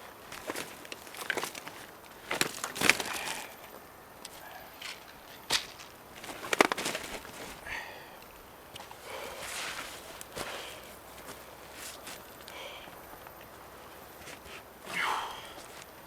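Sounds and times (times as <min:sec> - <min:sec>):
footsteps crunching on forest floor: 0:00.0 - 0:16.0.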